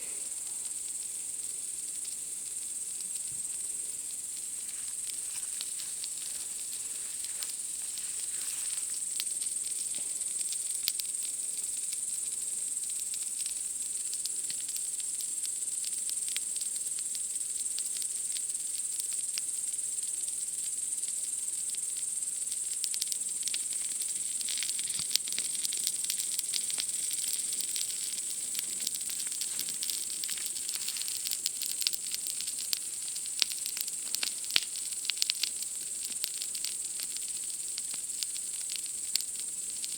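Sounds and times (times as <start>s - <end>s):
campfire crackling and popping: 0.0s - 39.9s
night insects chirring: 0.0s - 39.9s.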